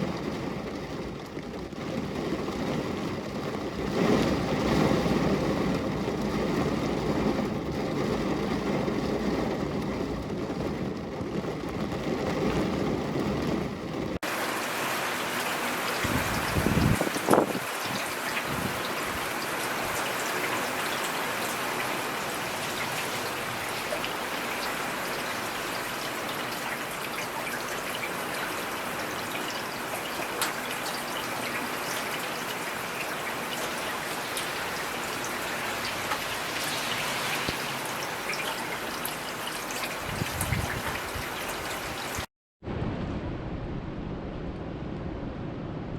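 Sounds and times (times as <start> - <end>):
raindrops ticking on a surface: 0.0 - 42.3
steady rain falling: 0.0 - 42.3.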